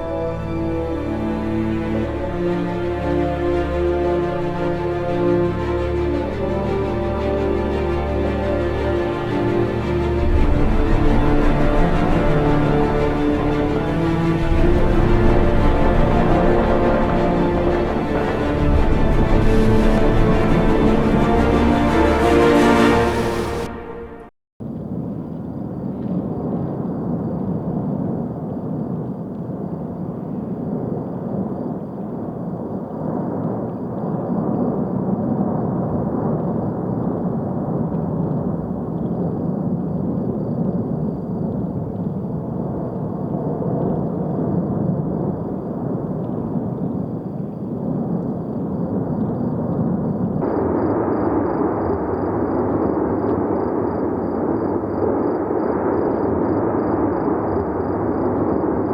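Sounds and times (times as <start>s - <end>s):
volcano roaring: 9.4s - 23.7s, 25.8s - 58.9s.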